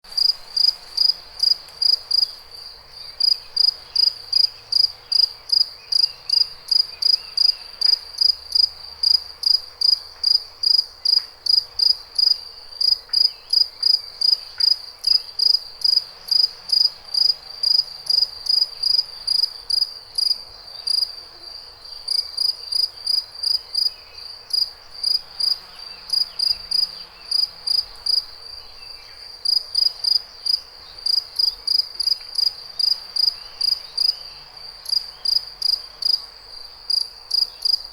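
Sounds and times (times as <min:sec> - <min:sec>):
cricket chirping: 0:00.1 - 0:37.9.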